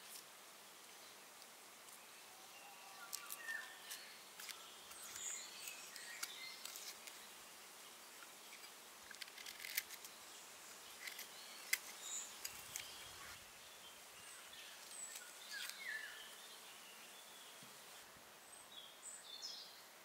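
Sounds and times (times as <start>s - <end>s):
faint bird chirps: 1.9s - 8.7s, 9.5s - 19.9s.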